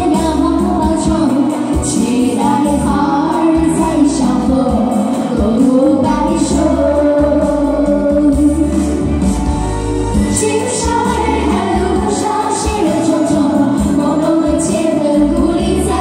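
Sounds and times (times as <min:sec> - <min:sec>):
women singing pop song: 0:00.0 - 0:09.4, 0:10.1 - 0:16.0
backing track with bass pulse: 0:00.0 - 0:16.0.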